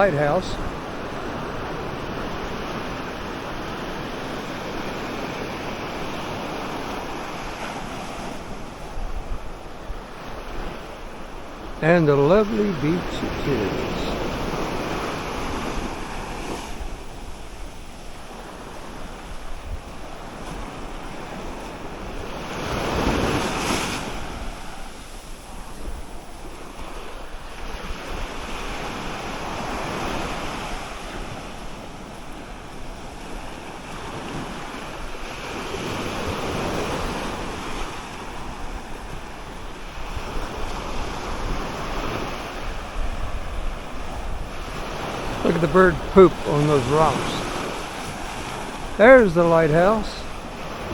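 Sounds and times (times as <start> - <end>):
surf breaking on beach: 0.0 - 50.9
wind rumble on microphone: 0.5 - 11.8, 13.5 - 45.4.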